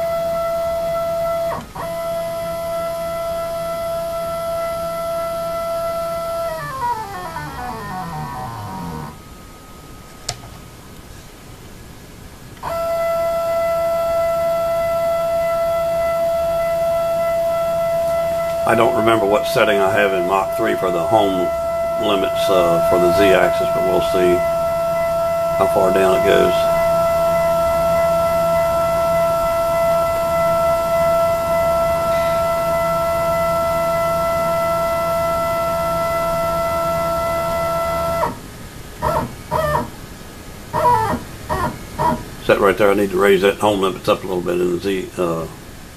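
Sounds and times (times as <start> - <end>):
stepper motor whining: 0.0 - 10.9, 12.6 - 40.0
low hum: 0.0 - 45.9.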